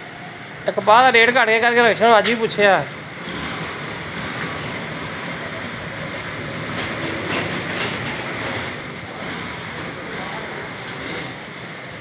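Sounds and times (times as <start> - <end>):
rumbling mechanical noise: 0.0 - 12.0.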